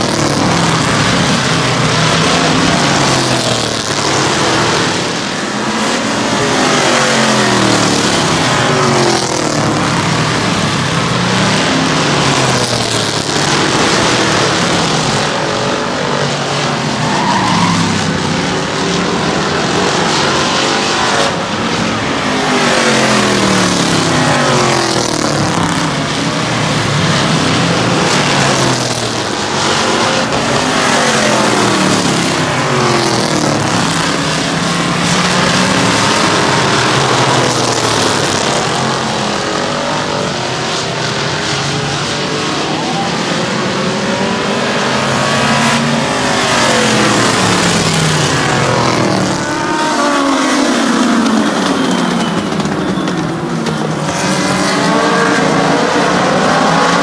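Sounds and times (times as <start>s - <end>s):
race car engines passing by: 0.0s - 57.0s.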